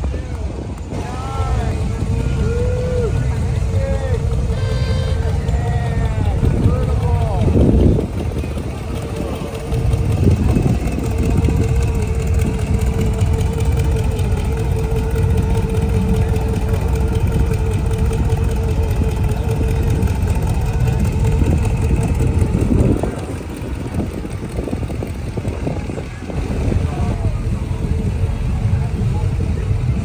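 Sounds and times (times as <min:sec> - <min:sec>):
hot rod engine running: 0:00.0 - 0:30.0.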